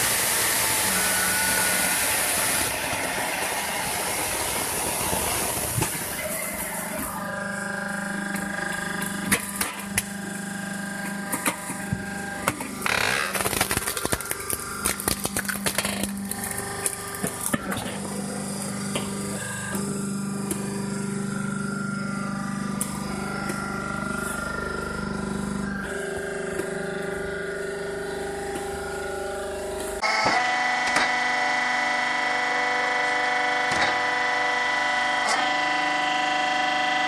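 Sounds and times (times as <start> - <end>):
machine hum: 0.0 - 37.0.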